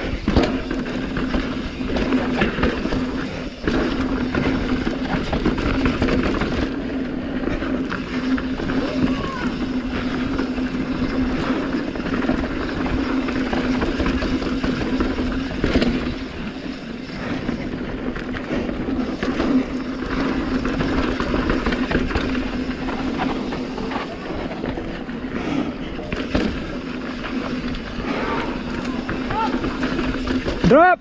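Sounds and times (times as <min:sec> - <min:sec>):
bike clacking over bumps: 0:00.0 - 0:31.0
bike tyre and wind noise: 0:00.0 - 0:31.0.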